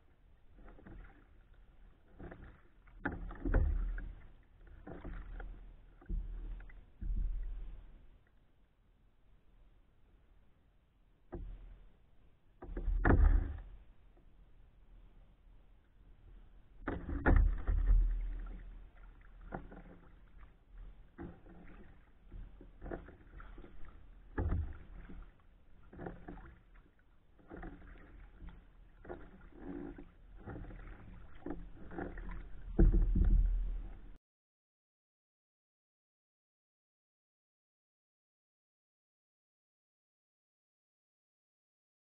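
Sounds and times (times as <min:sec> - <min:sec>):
paddle strokes in water: 0:00.0 - 0:34.2.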